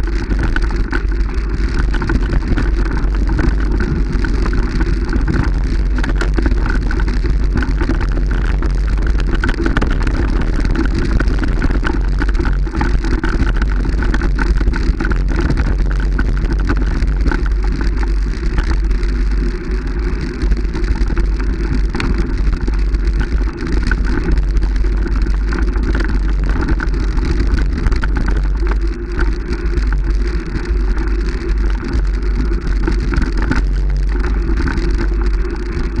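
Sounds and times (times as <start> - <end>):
fine pattering crackle: 0.0 - 36.0
vehicle engine and road drone: 0.0 - 36.0.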